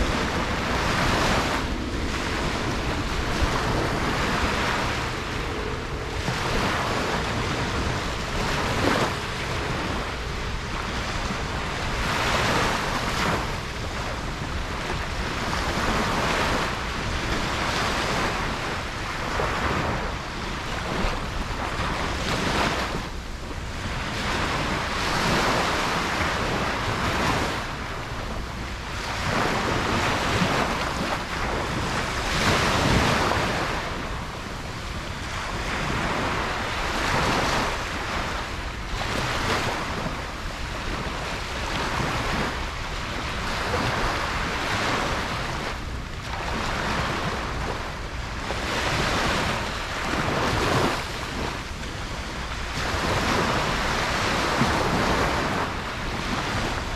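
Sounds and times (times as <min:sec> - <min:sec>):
ocean waves breaking on beach: 0:00.0 - 0:56.9
wind rumble on microphone: 0:00.0 - 0:56.9.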